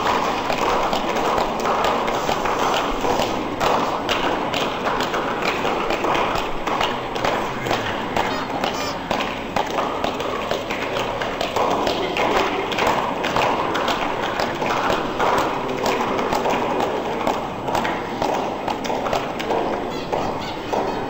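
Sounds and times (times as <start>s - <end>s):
murmur of voices: 0.0s - 21.0s.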